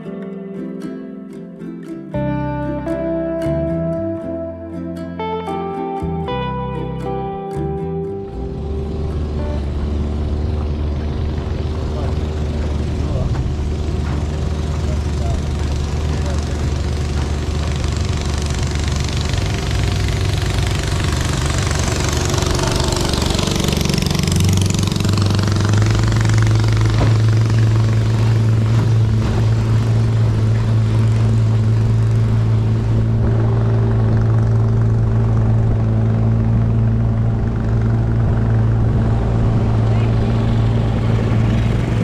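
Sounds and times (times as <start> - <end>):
boat engine running: 2.2 - 42.0.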